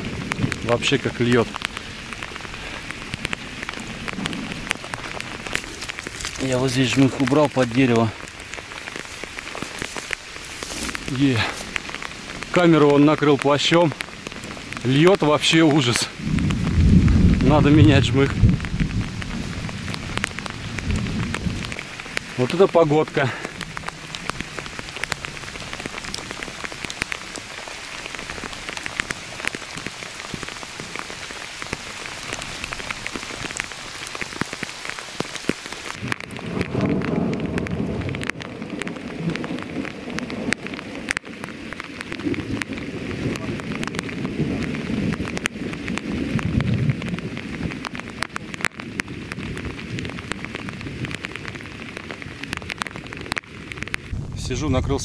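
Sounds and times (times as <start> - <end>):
heavy rain hiss: 0.0 - 55.0
raindrops ticking close by: 0.0 - 55.0
thunder rumbling: 0.0 - 55.0.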